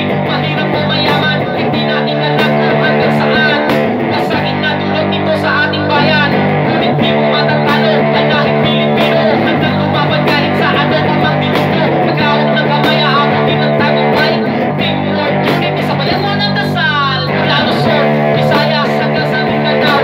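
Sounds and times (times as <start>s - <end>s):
foot-worked percussion beat: 0.0s - 5.2s, 6.0s - 20.0s
rock song on electric guitar: 0.0s - 20.0s.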